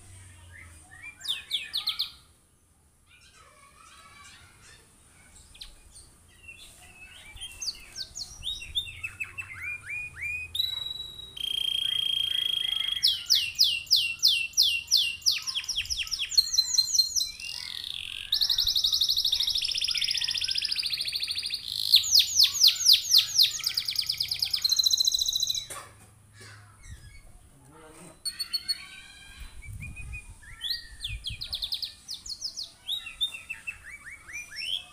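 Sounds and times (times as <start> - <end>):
canary singing with trills: 0.0 - 2.3, 3.1 - 25.8, 26.6 - 34.9.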